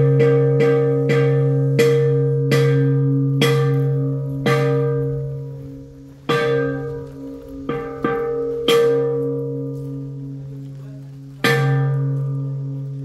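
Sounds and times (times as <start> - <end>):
slow plucked notes ringing: 0.0 - 13.0.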